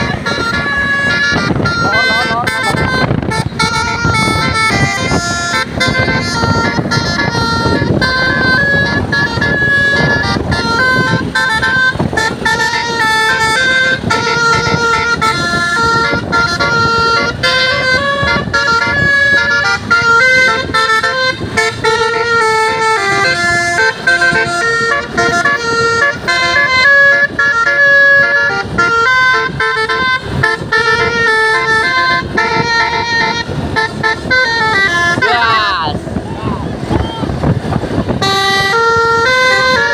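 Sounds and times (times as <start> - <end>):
musical bus horn tune: 0.0 - 39.9.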